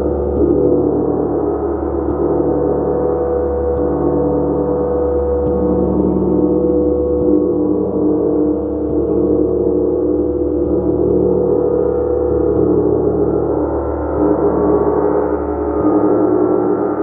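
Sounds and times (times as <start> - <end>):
gong shimmering: 0.0 - 17.0.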